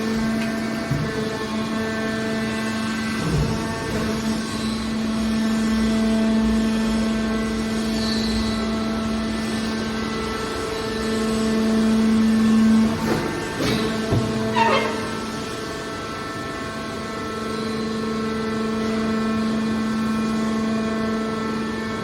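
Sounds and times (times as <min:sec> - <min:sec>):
hydraulic motor and pump drone: 0:00.0 - 0:22.0.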